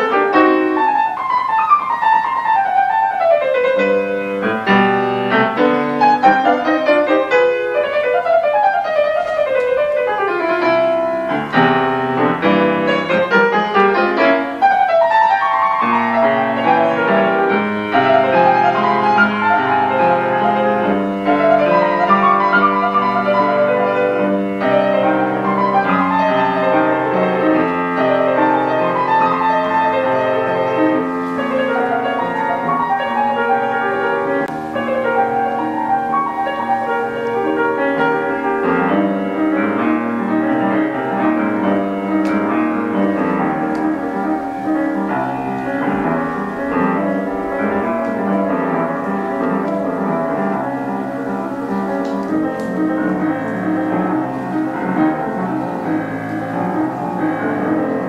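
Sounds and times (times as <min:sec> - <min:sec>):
classical piano music: 0:00.0 - 0:58.0.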